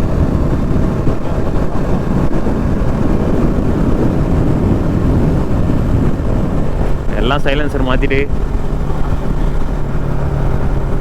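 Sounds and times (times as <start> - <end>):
motorcycle engine drone: 0.0 - 11.0
wind rushing: 0.0 - 11.0.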